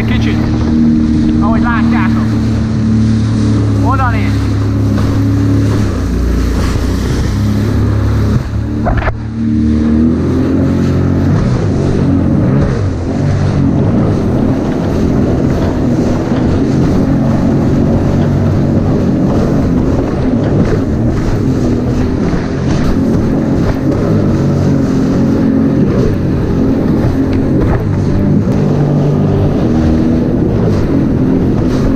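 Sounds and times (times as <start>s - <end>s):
jet ski engine running: 0.0s - 31.9s
wind on microphone: 0.0s - 31.9s.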